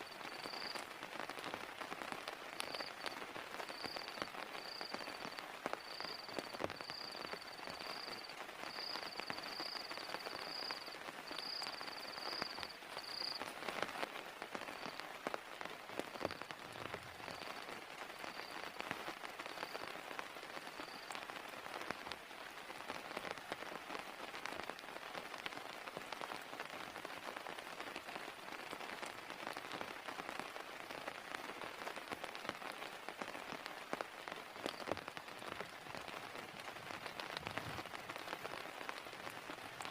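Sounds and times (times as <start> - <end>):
heavy rain falling: 0.0 - 39.9
raindrops tapping close: 0.0 - 39.9.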